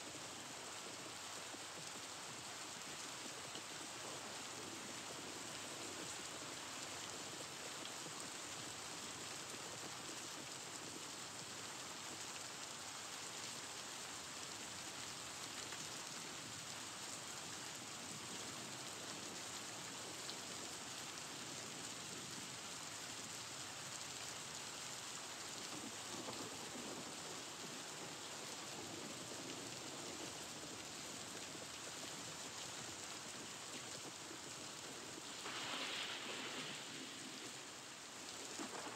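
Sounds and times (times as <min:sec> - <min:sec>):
steady rain-like hiss: 0:00.0 - 0:38.9.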